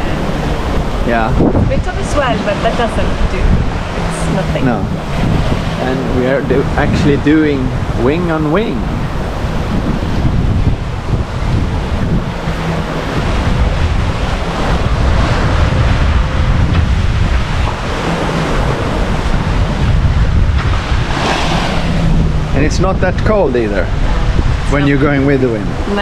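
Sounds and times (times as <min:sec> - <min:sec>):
waves rushing along a hull: 0:00.0 - 0:26.0
wind buffeting the microphone: 0:00.0 - 0:26.0.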